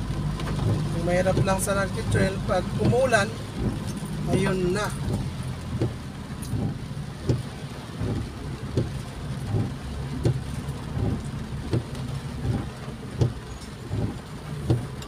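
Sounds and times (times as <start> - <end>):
car driving on wet road: 0.0 - 15.0
rain: 0.0 - 15.0
regular low thump: 0.3 - 15.0.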